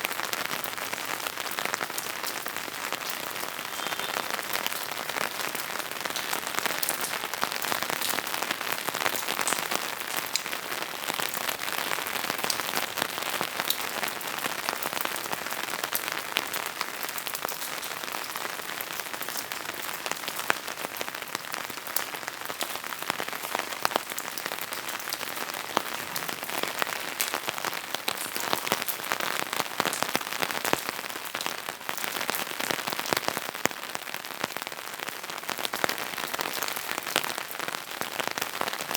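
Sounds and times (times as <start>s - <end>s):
rain pattering on surfaces: 0.0s - 38.9s.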